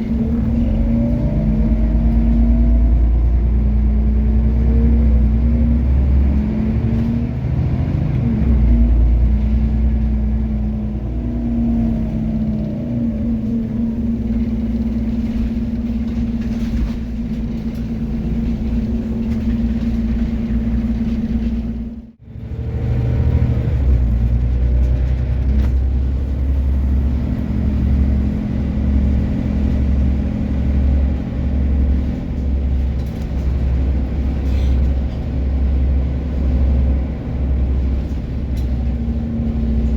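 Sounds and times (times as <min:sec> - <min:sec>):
bus engine rumble: 0:00.0 - 0:39.9.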